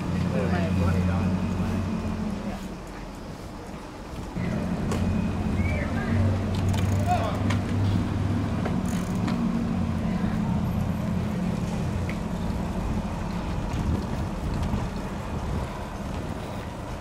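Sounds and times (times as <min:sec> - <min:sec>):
vehicle engine hum: 0:00.0 - 0:17.0
wind and road noise: 0:00.0 - 0:17.0.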